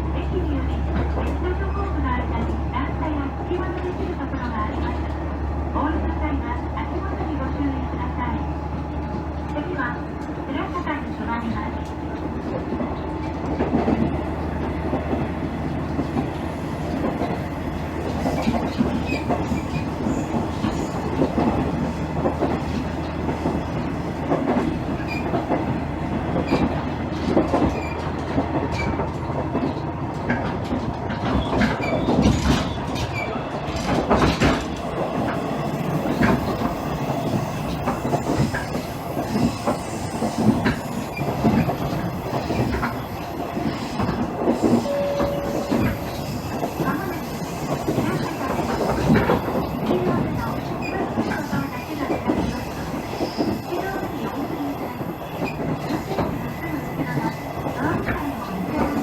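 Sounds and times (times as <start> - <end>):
diesel railcar rumble: 0.0 - 59.0
wheels clacking over rail joints: 11.5 - 59.0.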